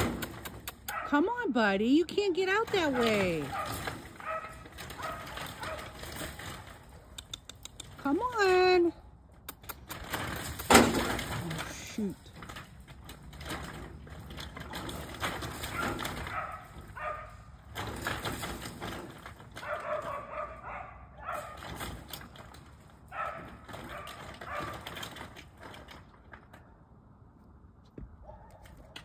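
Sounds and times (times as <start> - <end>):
knocks and rattles against fence: 0.0 - 29.0.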